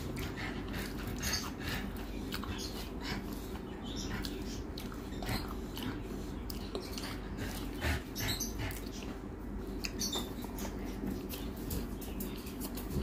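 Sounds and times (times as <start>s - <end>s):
wet chewing smacks: 0.1s - 11.9s.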